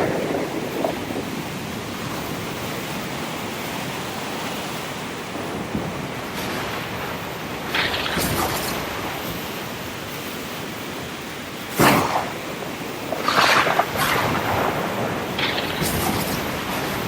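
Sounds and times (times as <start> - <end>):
sea surf washing: 0.0 - 17.0.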